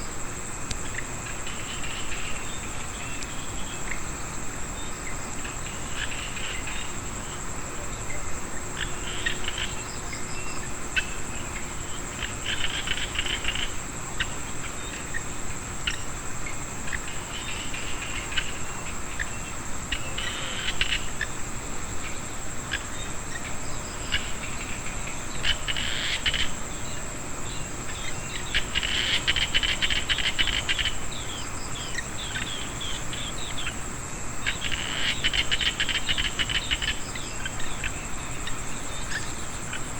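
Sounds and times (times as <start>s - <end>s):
insect trill: 0.0s - 39.9s
frogs calling in clicking bursts: 0.6s - 4.1s, 5.0s - 7.4s, 8.0s - 39.9s.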